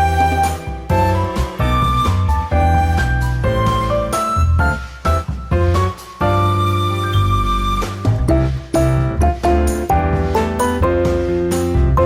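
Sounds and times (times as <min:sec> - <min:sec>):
light instrumental tune: 0:00.0 - 0:12.0.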